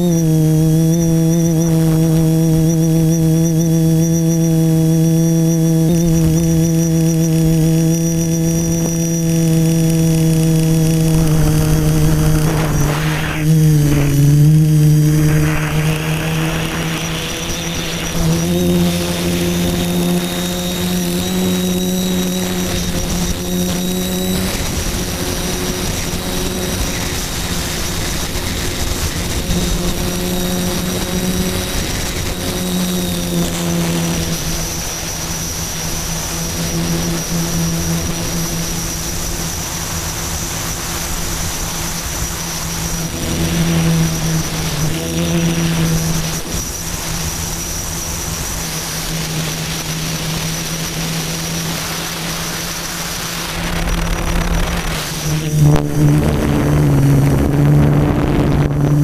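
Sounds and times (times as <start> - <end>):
drone propellers droning: 0.0 - 59.0
thin high whine: 0.0 - 59.0.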